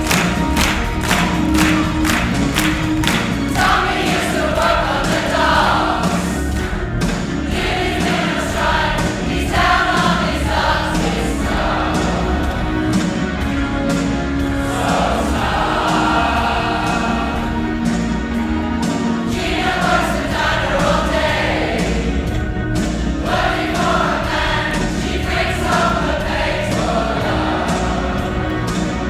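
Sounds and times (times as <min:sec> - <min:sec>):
choir singing: 0:00.0 - 0:29.0
steady beat: 0:00.0 - 0:29.0.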